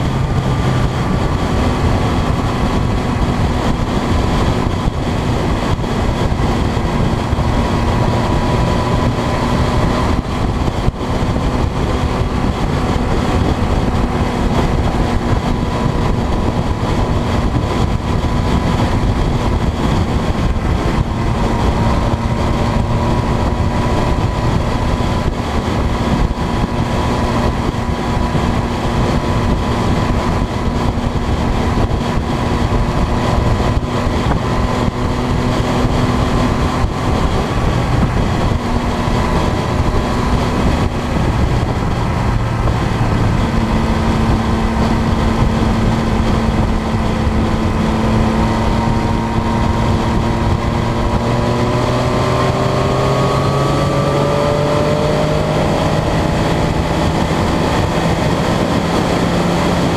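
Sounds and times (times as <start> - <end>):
road noise: 0.0 - 59.9
vehicle engine drone: 0.0 - 59.9.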